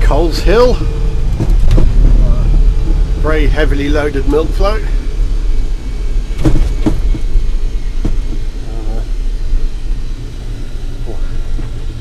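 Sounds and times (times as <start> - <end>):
electric vehicle low rumble: 0.0 - 12.0.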